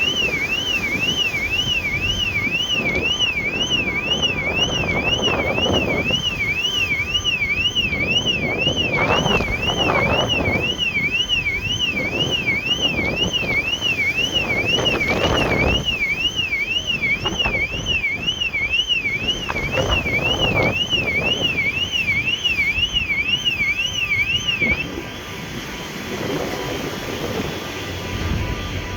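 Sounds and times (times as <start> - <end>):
electronic alarm siren wailing: 0.0 - 28.9
wind buffeting microphone: 0.0 - 28.9.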